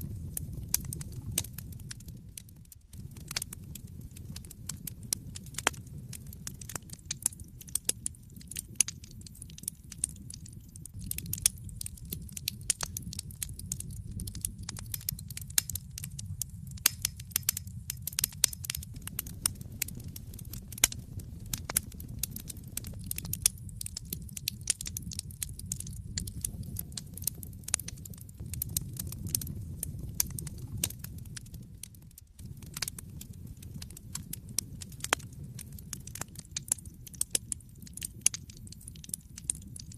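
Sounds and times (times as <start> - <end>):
low rumble of fire: 0.0 - 39.9
wood fire popping and snapping: 0.0 - 39.9.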